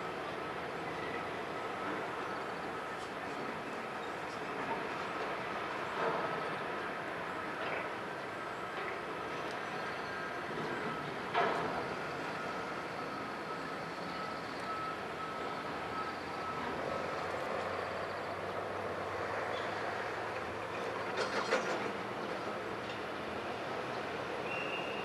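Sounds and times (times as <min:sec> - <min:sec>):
ferry engines droning: 0:00.0 - 0:25.0.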